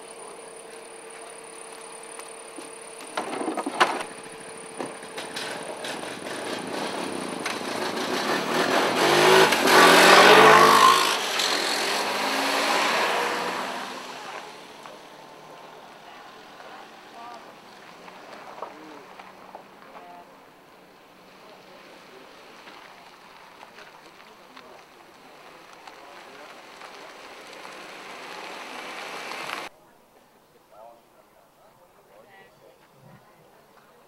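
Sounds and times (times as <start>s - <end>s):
quad bike engine passing by: 0.1s - 20.3s, 21.3s - 29.7s.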